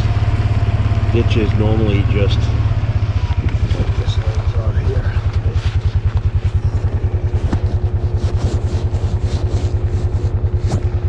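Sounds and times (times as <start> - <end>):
small engine thumping: 0.0 - 11.0.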